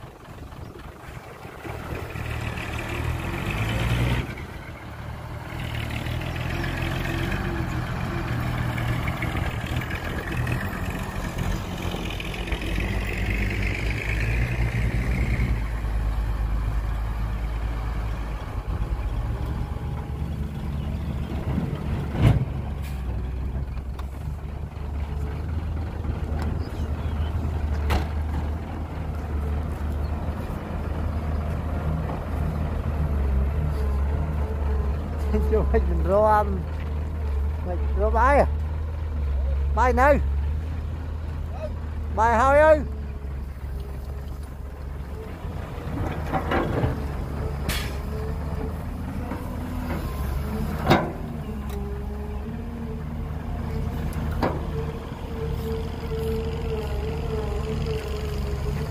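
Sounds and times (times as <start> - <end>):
heavy diesel machinery: 0.0 - 58.9.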